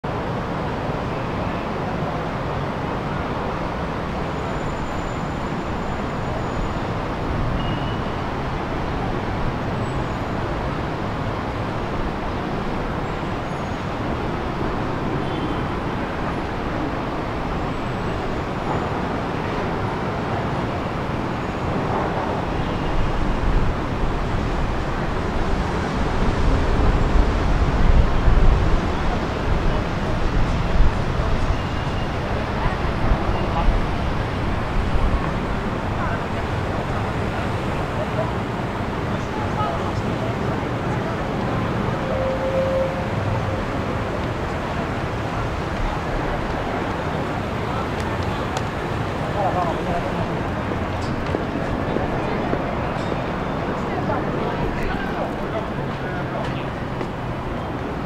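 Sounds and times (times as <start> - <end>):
city traffic noise: 0.0 - 58.0.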